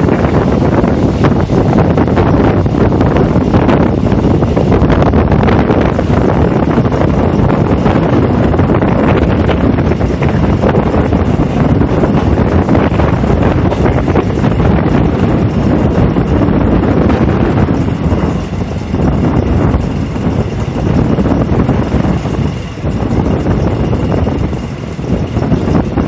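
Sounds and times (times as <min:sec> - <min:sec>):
train running rumble: 0:00.0 - 0:26.0
wind buffeting microphone: 0:00.0 - 0:26.0.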